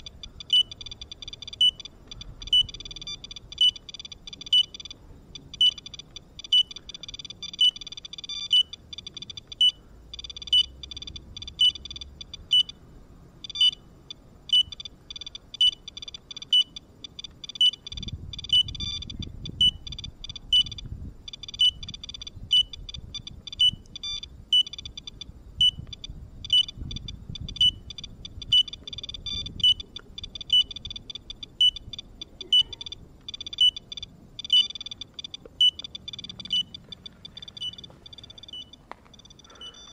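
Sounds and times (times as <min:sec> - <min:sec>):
geiger counter clicking: 0:00.0 - 0:12.8, 0:13.4 - 0:39.9
short high beeps: 0:00.0 - 0:12.8, 0:13.4 - 0:13.8, 0:14.5 - 0:39.9.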